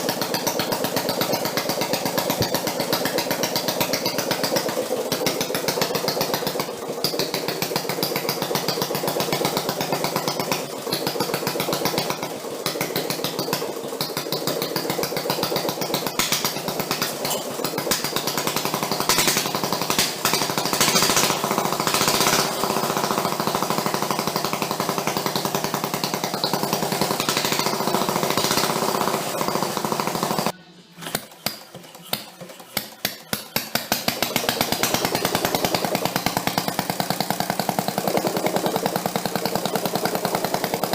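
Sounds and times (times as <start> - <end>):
engine pops: 0.0 - 40.9
small engine running fast: 0.0 - 40.9.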